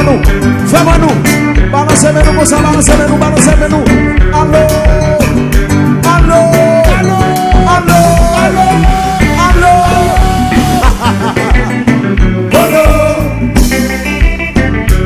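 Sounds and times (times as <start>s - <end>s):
band playing over sound system: 0.0s - 15.0s
steady kick drum beat: 0.0s - 15.0s.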